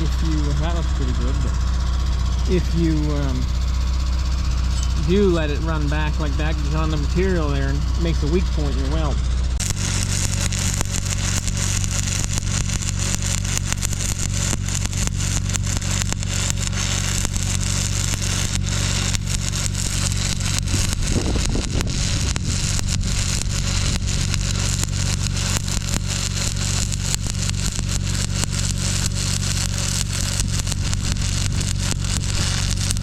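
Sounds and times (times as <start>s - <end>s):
low hum: 0.0s - 33.0s
welding arc crackling and sizzling: 0.0s - 33.0s.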